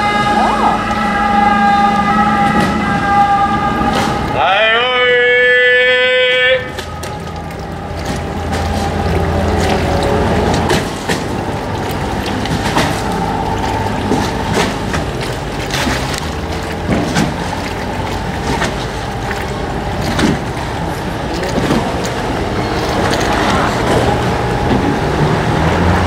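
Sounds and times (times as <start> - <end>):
motorboat engines: 0.0 - 26.0
water splashing and lapping: 0.0 - 26.0.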